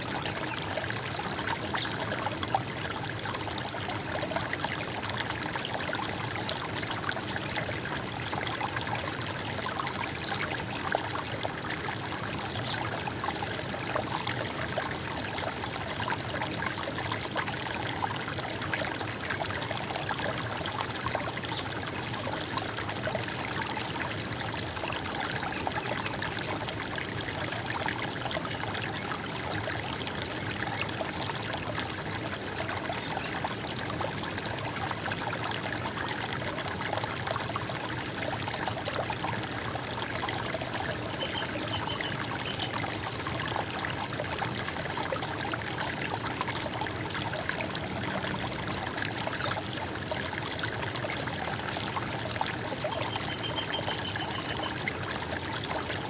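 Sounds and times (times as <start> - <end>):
stream water gurgling: 0.0 - 56.0.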